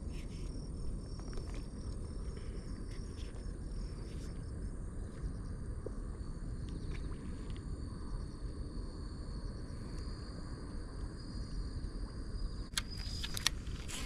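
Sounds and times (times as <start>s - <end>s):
faint high insect trill: 0.0s - 14.0s
low outdoor rumble: 0.0s - 14.0s.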